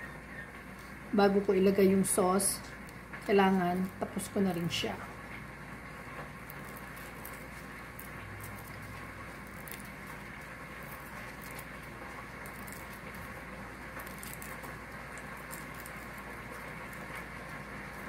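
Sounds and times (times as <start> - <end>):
eggshell crackling: 0.0 - 18.0.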